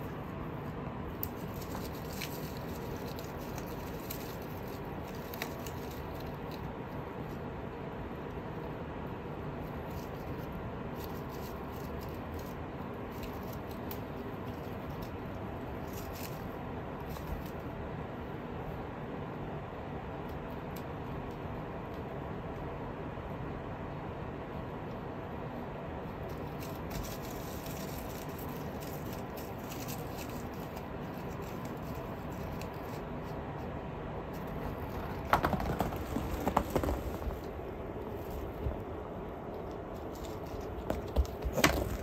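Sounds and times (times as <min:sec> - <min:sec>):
steady background hiss: 0:00.0 - 0:42.0.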